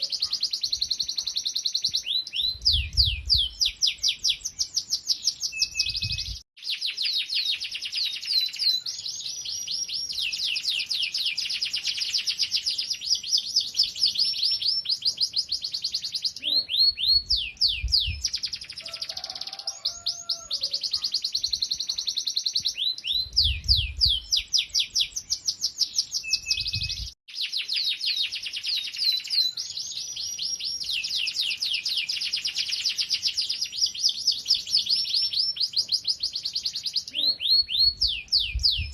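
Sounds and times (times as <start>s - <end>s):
canary singing in rapid trills: 0.0s - 38.9s.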